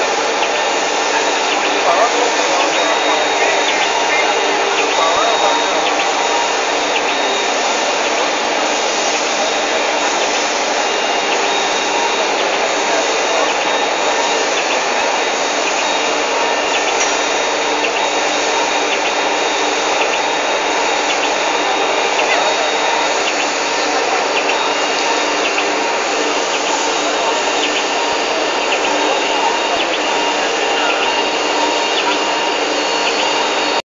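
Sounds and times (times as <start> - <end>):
busy hall din: 0.0 - 33.8
indistinct voices: 0.0 - 33.8.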